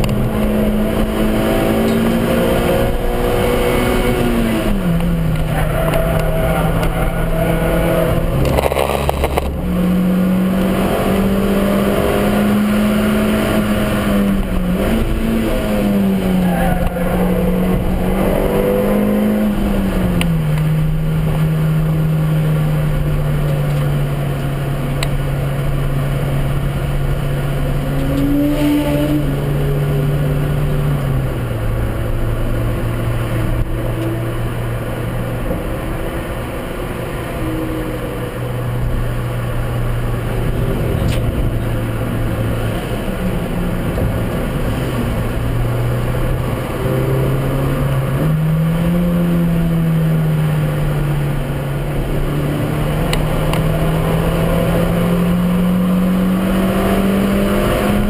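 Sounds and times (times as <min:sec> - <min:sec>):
car engine running under load: 0:00.0 - 0:58.0
road and wind noise: 0:00.0 - 0:58.0.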